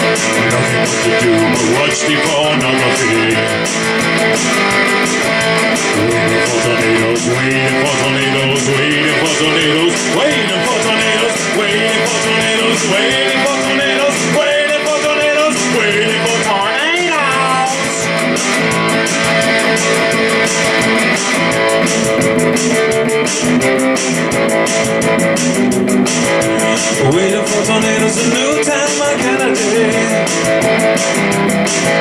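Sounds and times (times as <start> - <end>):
electric guitar strumming chords: 0.0 - 32.0.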